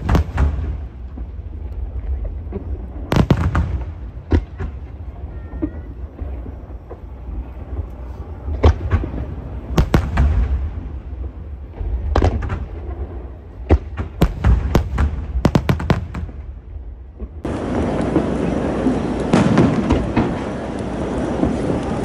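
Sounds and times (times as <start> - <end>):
fireworks bangs: 0.0 - 22.0
fireworks booms: 0.0 - 22.0.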